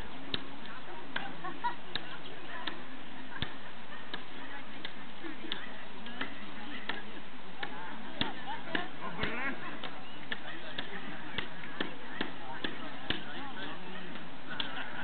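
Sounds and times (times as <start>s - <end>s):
faint crowd chatter: 0.0s - 15.0s.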